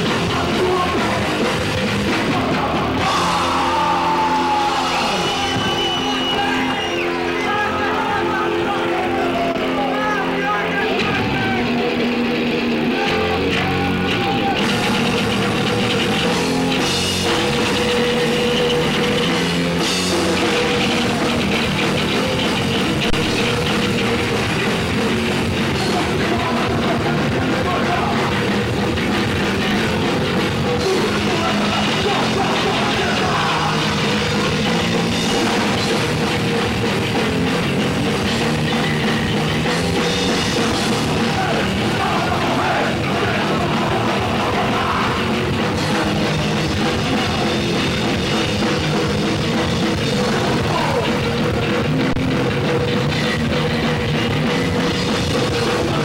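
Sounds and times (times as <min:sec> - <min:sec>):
punk rock band playing live: 0:00.0 - 0:56.0.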